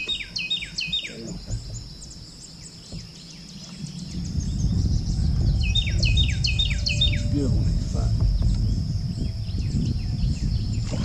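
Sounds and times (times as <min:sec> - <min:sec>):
insects droning: 0:00.0 - 0:11.0
songbird chirping: 0:00.0 - 0:11.0
low rushing noise: 0:01.4 - 0:11.0.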